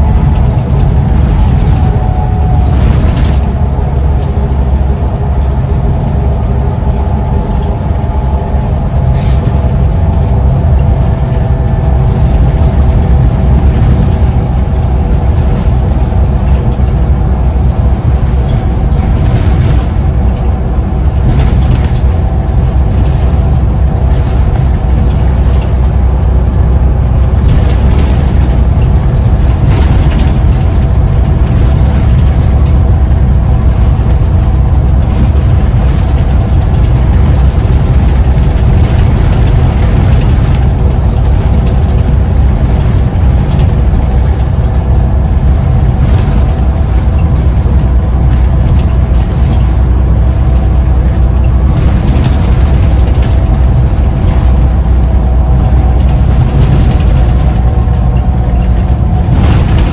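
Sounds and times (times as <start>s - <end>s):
bus diesel engine running: 0.0s - 59.9s
road and tyre noise: 0.0s - 59.9s.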